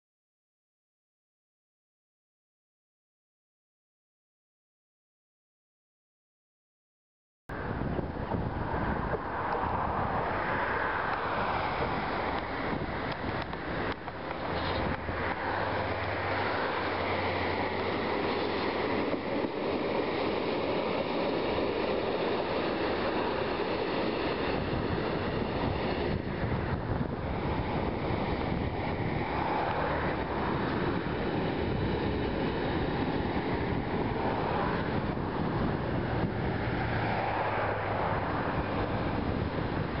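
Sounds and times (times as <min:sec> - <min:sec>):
electric locomotive passing: 0:07.5 - 0:40.0
wind buffeting microphone: 0:07.5 - 0:40.0
train wheels on rail: 0:07.9 - 0:40.0.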